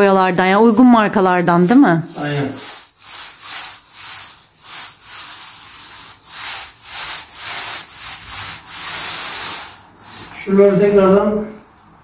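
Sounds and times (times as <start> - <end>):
paint roller swishing on wall: 0.0 - 11.9.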